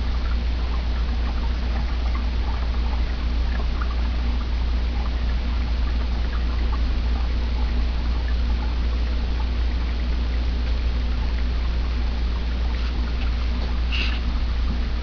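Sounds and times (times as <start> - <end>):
steady low hum: 0.0 - 15.0
water trickling and splashing: 0.0 - 15.0.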